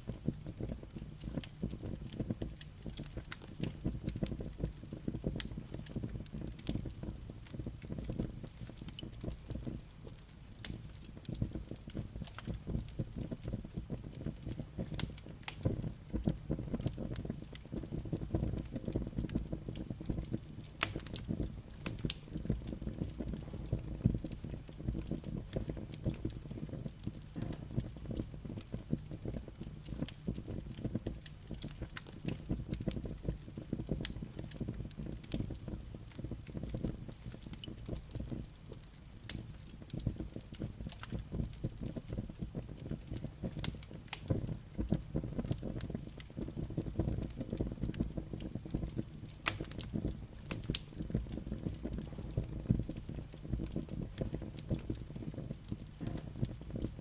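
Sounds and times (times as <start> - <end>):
fire flames rumbling: 0.0 - 57.0
firewood crackling and popping: 0.0 - 57.0.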